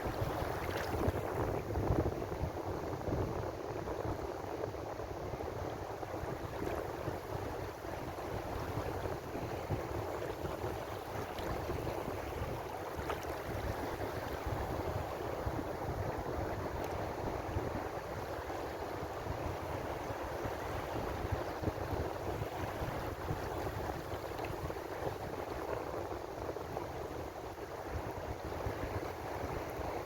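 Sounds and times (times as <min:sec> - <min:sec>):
ocean waves washing on shore: 0:00.0 - 0:30.0.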